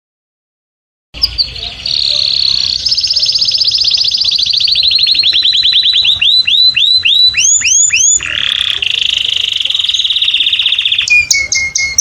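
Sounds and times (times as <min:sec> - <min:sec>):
canary singing: 0:01.2 - 0:12.0.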